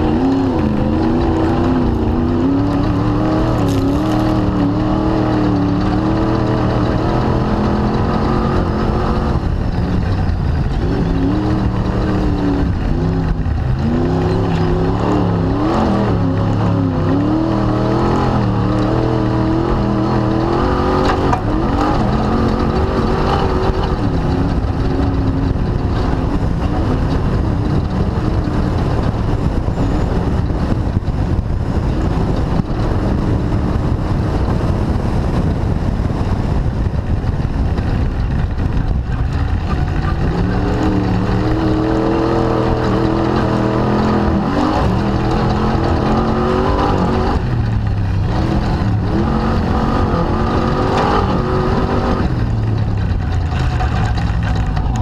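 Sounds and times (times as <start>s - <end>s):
engine revving: 0.0s - 55.0s
wind and driving noise: 0.0s - 55.0s.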